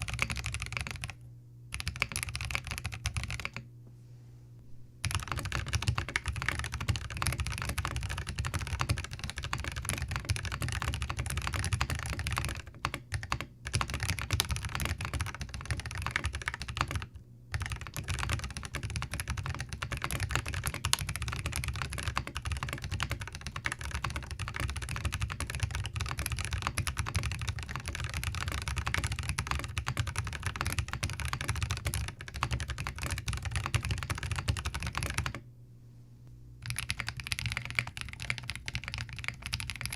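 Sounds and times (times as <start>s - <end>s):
fast mechanical keyboard typing: 0.0s - 3.6s, 5.0s - 35.4s, 36.6s - 39.9s.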